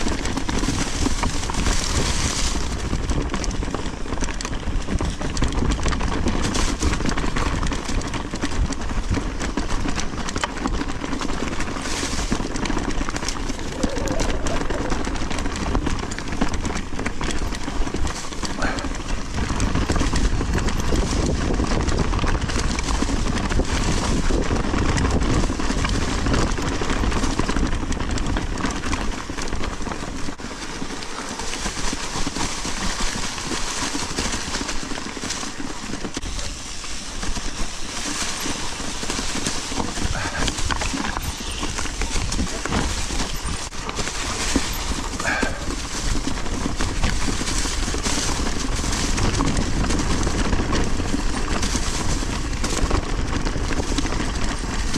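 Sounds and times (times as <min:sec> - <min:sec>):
bike rattling over bumps: 0:00.0 - 0:54.9
bike tyre noise on dirt: 0:00.0 - 0:54.9
wind rumbling on microphone: 0:00.0 - 0:54.9.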